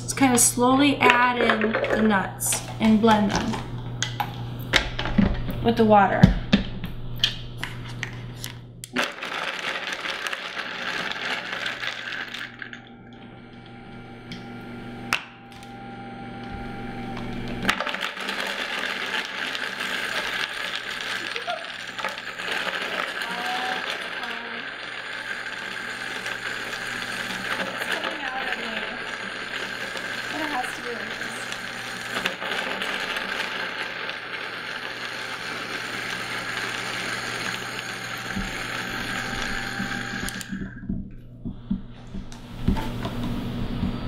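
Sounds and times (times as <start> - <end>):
blender running: 0.0 - 4.4, 8.8 - 41.0, 42.1 - 44.0.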